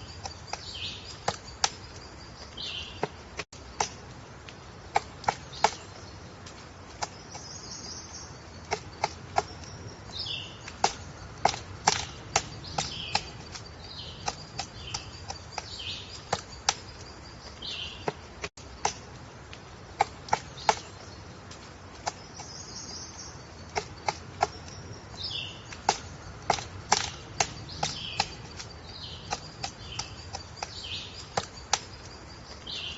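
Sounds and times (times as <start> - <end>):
woodpecker pecking at wood: 0.0 - 32.9.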